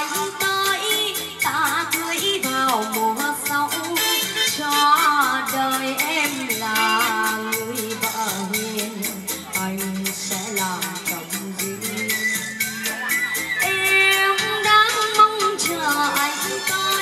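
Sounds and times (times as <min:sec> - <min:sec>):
song with quick beat and melody: 0:00.0 - 0:17.0.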